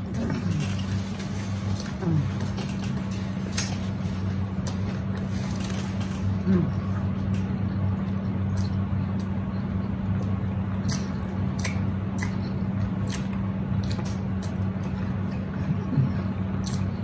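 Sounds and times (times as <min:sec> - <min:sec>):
steady low hum: 0:00.0 - 0:17.0
wet chewing of sandwich: 0:00.0 - 0:17.0.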